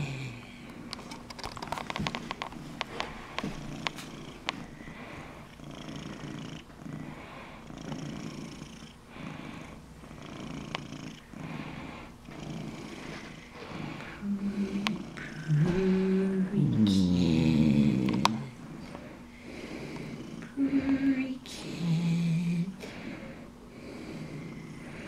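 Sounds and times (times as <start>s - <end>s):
cat purring: 2.2s - 22.8s.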